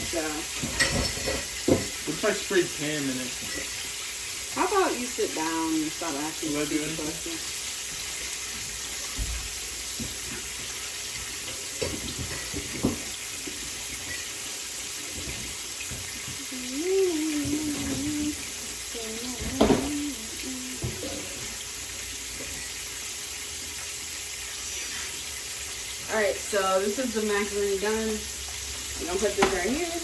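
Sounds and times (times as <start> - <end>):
water running into sink: 0.0 - 30.0.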